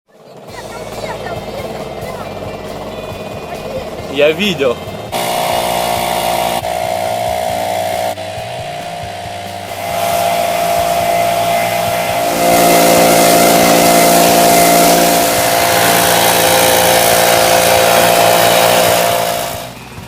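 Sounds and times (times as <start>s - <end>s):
petrol engine revving: 0.1s - 20.0s.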